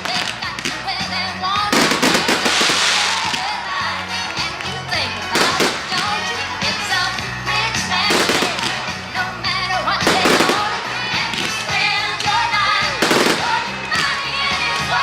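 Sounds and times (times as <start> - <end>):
fireworks bursting and crackling: 0.0 - 6.8, 8.0 - 9.1, 10.0 - 15.0
music: 0.0 - 15.0.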